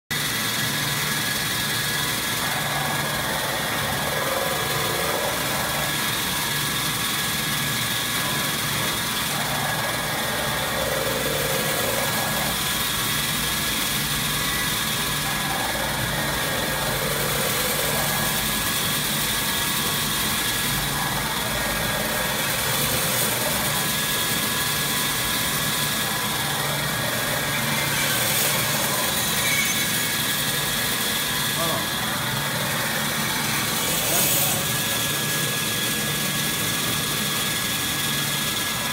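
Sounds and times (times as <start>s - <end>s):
paper cutting machine whirring: 0.1s - 38.9s.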